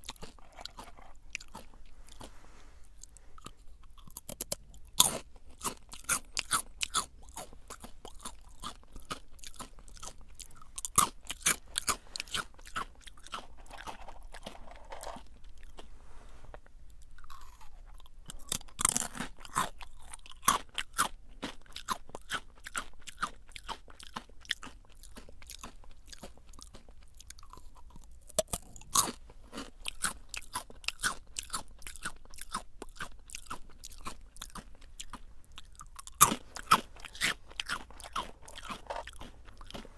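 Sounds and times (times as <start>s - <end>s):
crunchy potato sticks chewing: 0.0s - 39.9s.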